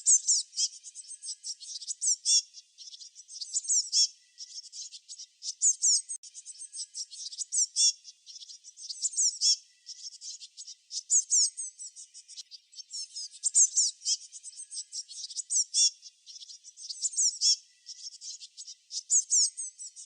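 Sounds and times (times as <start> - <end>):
small songbirds chirping: 0.0 - 20.0.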